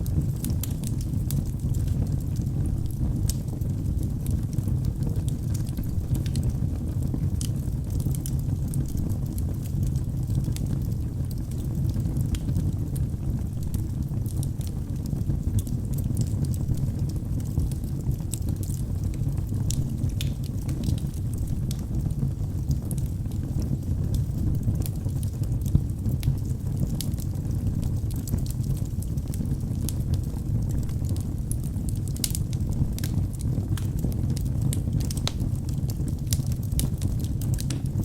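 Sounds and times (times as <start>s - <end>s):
burning wood crackling and popping: 0.0s - 38.0s
low rumble of flames: 0.0s - 38.0s.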